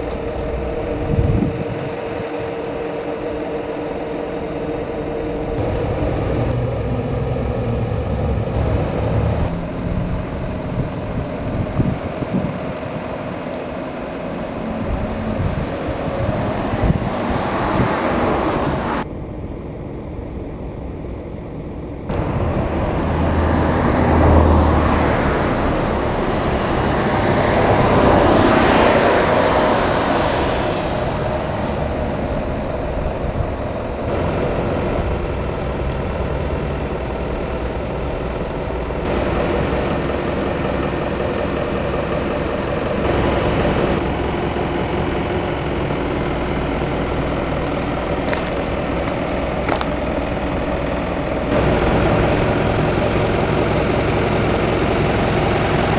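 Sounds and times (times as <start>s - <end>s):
background traffic: 0.0s - 55.9s
vehicles passing: 0.0s - 55.9s.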